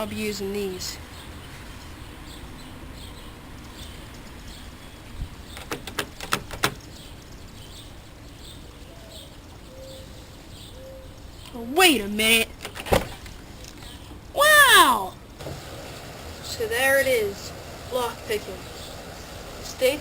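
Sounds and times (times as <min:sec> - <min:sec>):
background noise: 0:00.0 - 0:20.0.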